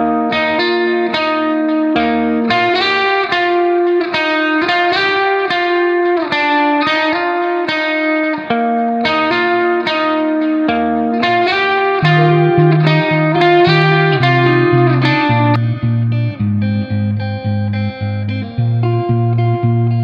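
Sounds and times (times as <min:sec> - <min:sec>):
plucked guitar tune: 0:00.0 - 0:20.0.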